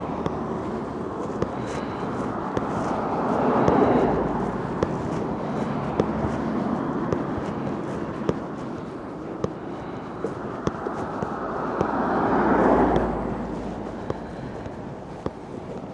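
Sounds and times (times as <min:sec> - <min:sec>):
vehicle passing: 0:00.0 - 0:15.6
street traffic noise: 0:00.0 - 0:15.9
walking footsteps: 0:00.0 - 0:15.9.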